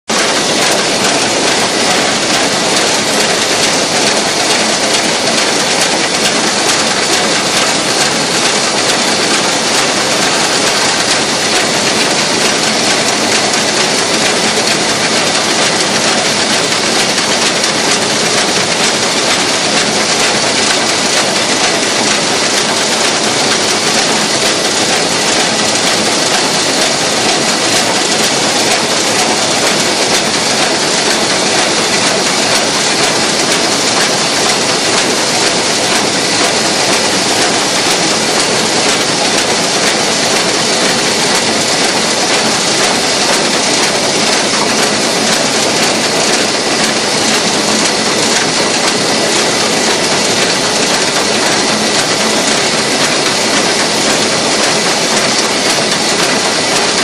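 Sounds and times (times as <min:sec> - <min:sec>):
steam locomotive running: 0:00.1 - 0:57.0.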